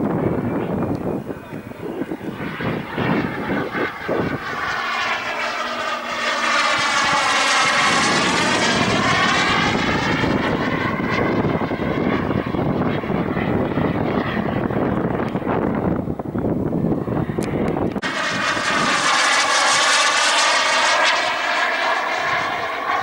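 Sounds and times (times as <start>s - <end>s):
model jet flying past: 0.0s - 23.0s.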